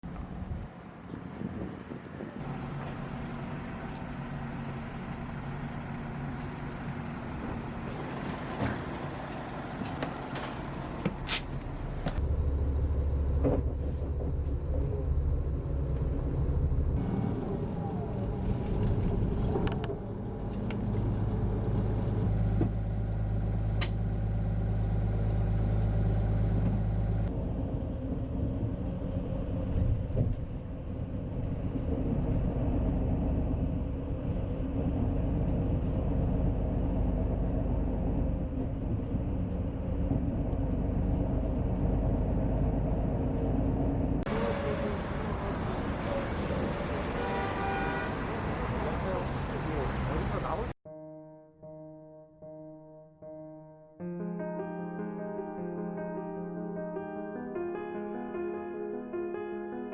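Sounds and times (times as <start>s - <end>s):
road vehicle rumble: 0.0s - 50.8s.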